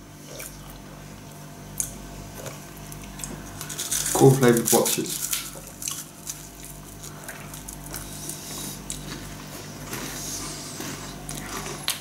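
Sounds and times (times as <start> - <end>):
crunchy snack chewing: 1.8 - 12.0.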